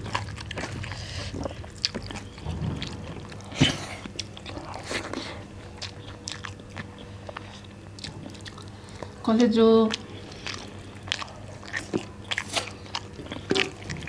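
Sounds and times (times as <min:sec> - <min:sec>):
chewing and mouth smacks: 0:00.0 - 0:14.0
faint steady hum: 0:00.0 - 0:14.0.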